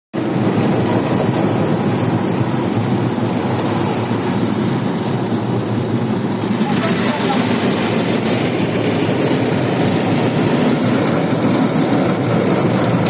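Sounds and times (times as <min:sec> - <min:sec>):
car wash rushing noise: 0:00.2 - 0:13.0.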